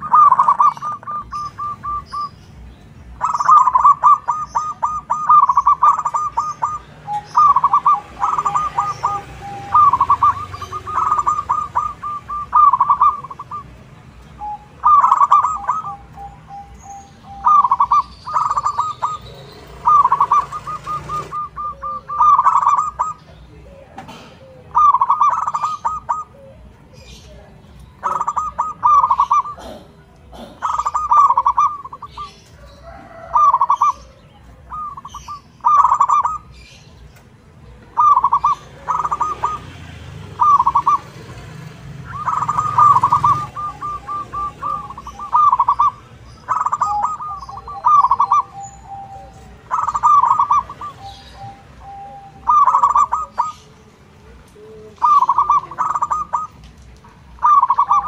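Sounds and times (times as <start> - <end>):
dove cooing: 0.0 - 2.5, 3.1 - 37.1, 37.7 - 58.0.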